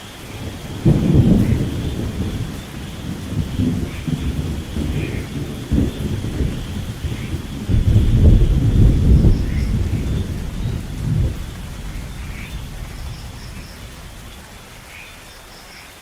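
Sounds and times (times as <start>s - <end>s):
thunder clap and rumble: 0.0s - 15.5s
steady rain: 0.0s - 16.0s.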